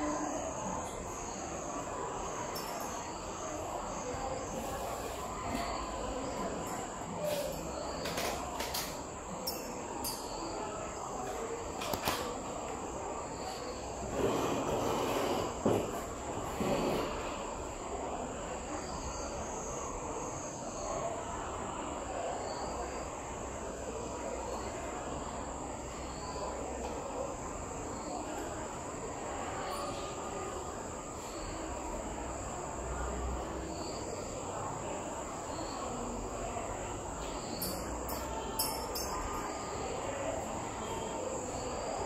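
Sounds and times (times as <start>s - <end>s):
room noise: 0.0s - 42.0s.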